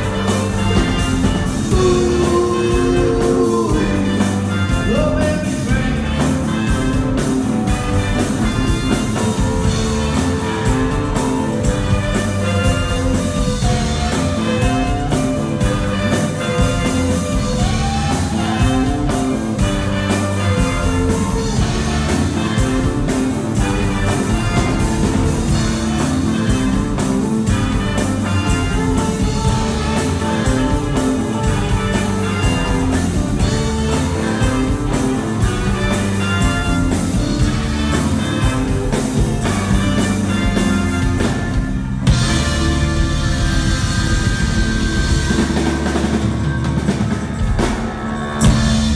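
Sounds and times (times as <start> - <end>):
live rock and roll band: 0.0 - 48.9.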